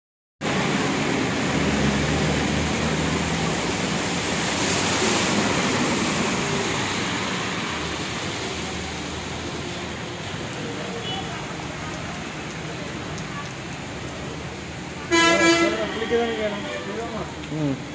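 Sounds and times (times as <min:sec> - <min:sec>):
heavy rain on flooded road: 0:00.4 - 0:17.9
tyres swishing through water: 0:00.4 - 0:17.9.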